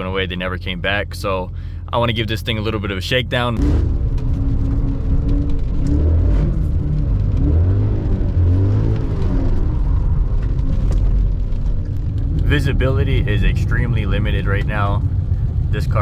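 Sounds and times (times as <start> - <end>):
car engine accelerating: 2.8 - 16.0.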